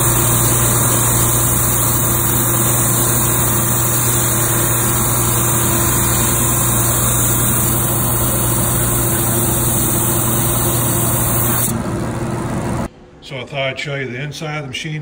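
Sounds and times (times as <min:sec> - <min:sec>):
drum sander drone: 0:00.0 - 0:12.9.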